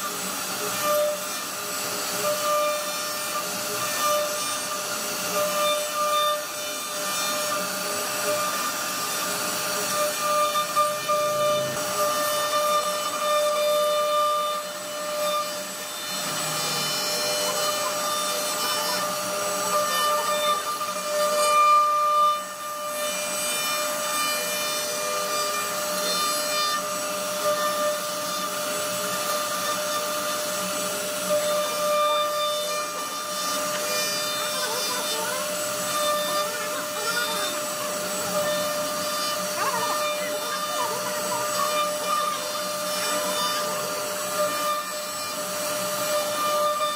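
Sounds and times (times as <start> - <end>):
cutter rasping in wood: 0.0 - 46.9
router spindle whining: 0.0 - 46.9.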